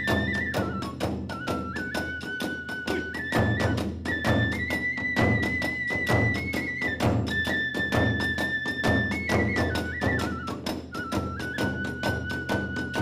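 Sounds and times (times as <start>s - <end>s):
bamboo flute: 0.0s - 13.0s
quick drum beats: 0.0s - 13.0s.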